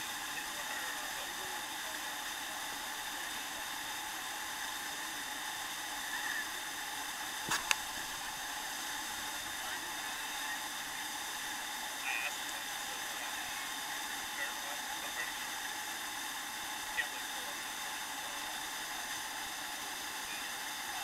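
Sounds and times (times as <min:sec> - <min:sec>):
rushing water hiss: 0:00.0 - 0:21.0.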